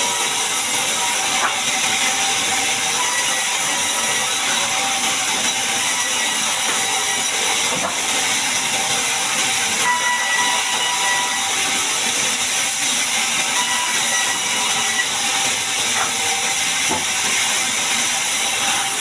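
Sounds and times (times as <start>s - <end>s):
bandsaw blade cutting log: 0.0s - 19.0s.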